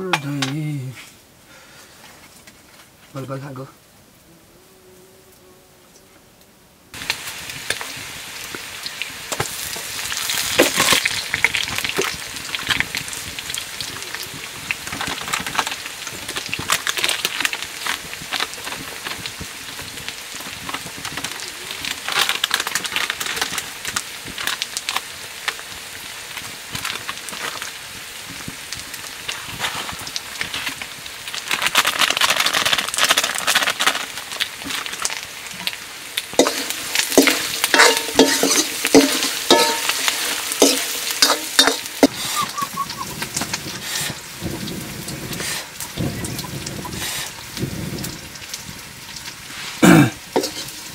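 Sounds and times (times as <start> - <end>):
curry sizzling in a pan: 6.9 - 50.9.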